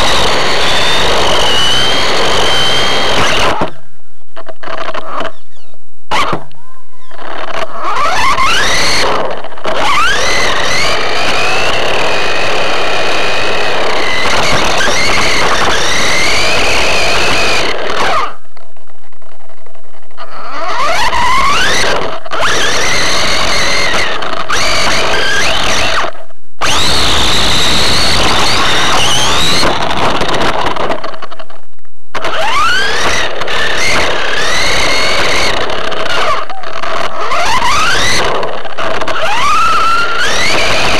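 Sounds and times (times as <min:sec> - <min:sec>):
rc car motor whining: 0:00.0 - 0:03.8, 0:06.1 - 0:18.4, 0:20.2 - 0:31.4, 0:32.2 - 0:40.9.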